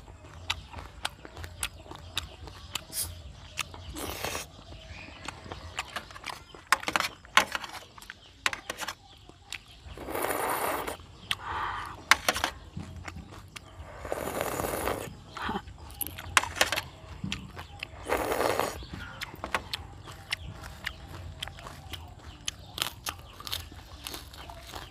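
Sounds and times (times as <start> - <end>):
wet chewing and lip smacks: 0.0 - 8.4, 9.0 - 24.9.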